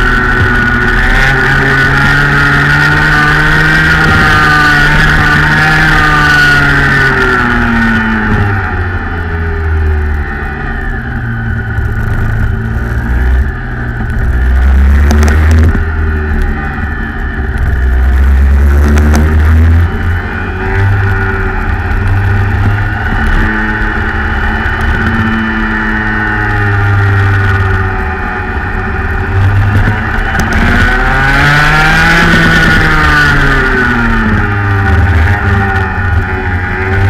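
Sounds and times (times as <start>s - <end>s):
kart engine revving: 0.0s - 37.0s.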